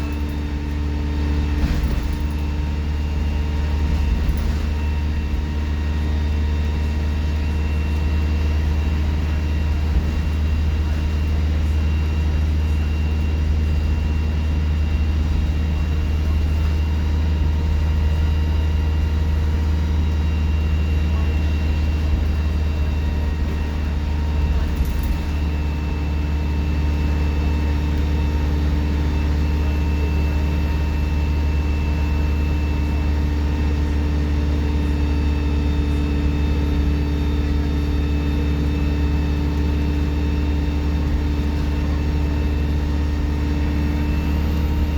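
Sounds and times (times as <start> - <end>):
bus engine droning: 0.0 - 44.9.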